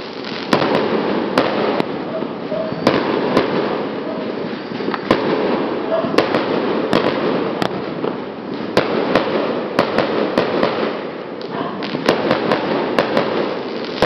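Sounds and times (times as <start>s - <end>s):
firecracker bangs: 0.0s - 14.0s
fireworks crackling: 0.0s - 14.0s.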